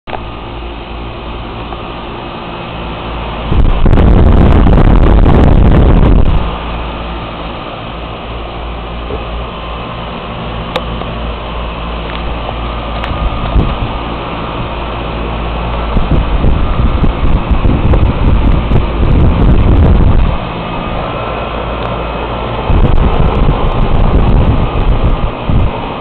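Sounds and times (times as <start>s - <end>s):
air conditioner unit humming: 0.1s - 26.0s
rush of air on microphone: 0.1s - 26.0s.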